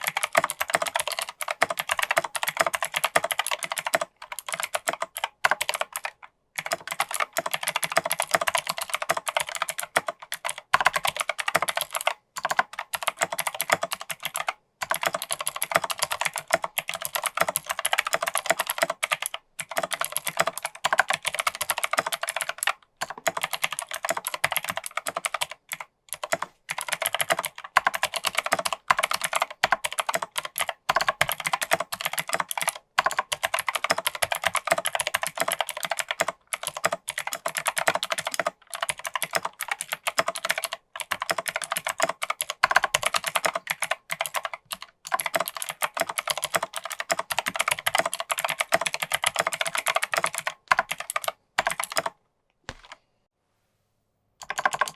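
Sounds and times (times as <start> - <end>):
mechanical keyboard typing: 0.0 - 53.0, 54.4 - 54.9.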